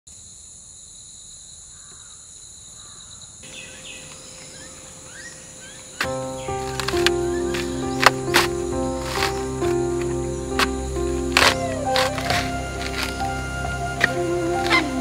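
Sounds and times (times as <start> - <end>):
insect drone: 0.1 - 15.0
birds chirping: 2.8 - 15.0.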